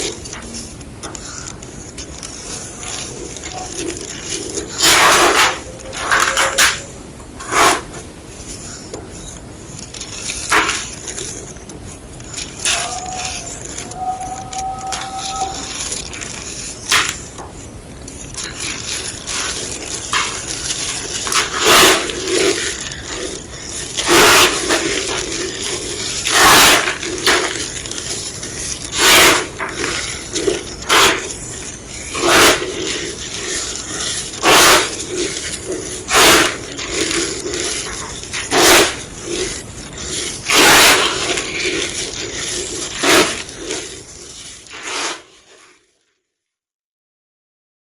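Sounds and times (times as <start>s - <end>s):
chalk being crushed: 0.0s - 45.8s
soft chalk crumbling: 0.0s - 45.8s.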